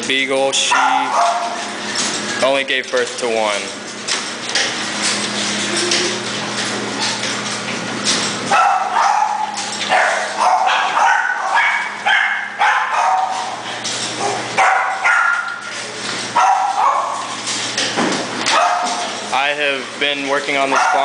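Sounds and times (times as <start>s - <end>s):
dogs barking and yipping: 0.6s - 2.4s, 4.0s - 19.3s, 20.5s - 21.0s.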